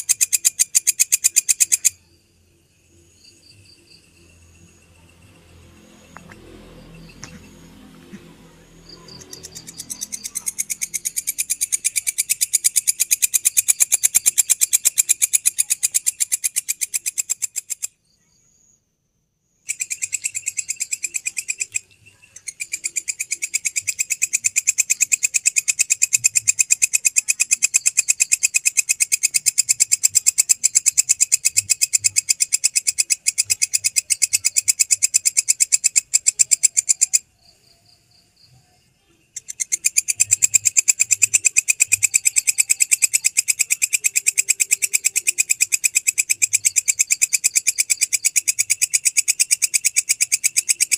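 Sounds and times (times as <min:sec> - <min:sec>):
grasshopper singing: 0:00.0 - 0:18.3, 0:19.6 - 0:50.9.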